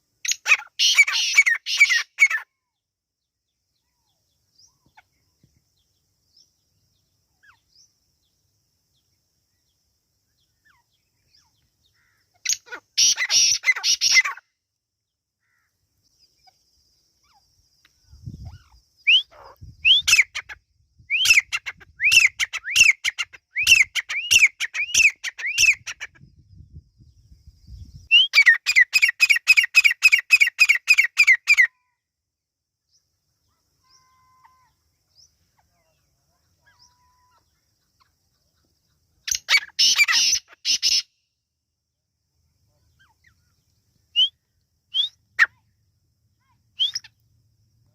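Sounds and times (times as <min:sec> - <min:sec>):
francolin calling: 0:00.0 - 0:02.8, 0:03.7 - 0:14.6, 0:15.4 - 0:31.9, 0:32.9 - 0:41.3, 0:42.5 - 0:47.9.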